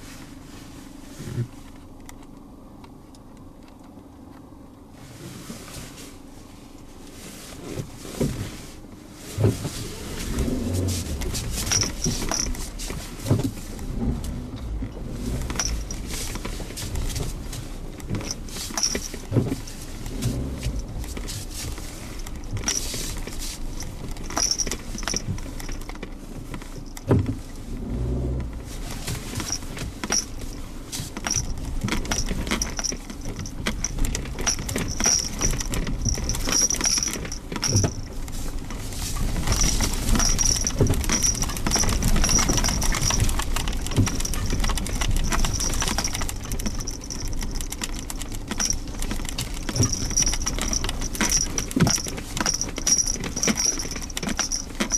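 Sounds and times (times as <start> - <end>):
engine and road rumble: 0.0 - 54.9
knocks and rattles over bumps: 9.4 - 27.6, 28.4 - 54.9.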